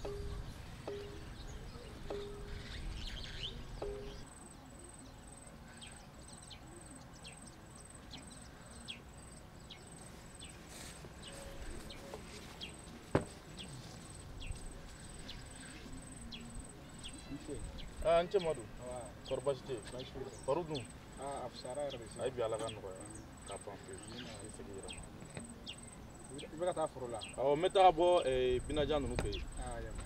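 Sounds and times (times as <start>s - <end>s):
bird chirps: 0.0s - 30.0s
insect chirping: 0.0s - 30.0s.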